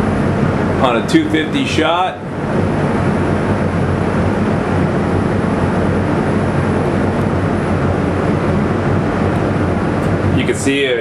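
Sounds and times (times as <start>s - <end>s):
loud vee eight engine running: 0.5s - 10.7s.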